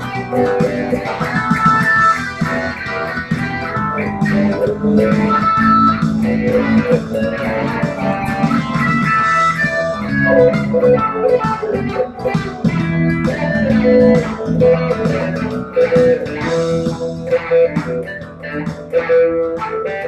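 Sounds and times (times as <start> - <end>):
bass line: 0.0 - 20.0
electric guitar lead: 0.0 - 20.0
steady drum beat: 0.0 - 20.0.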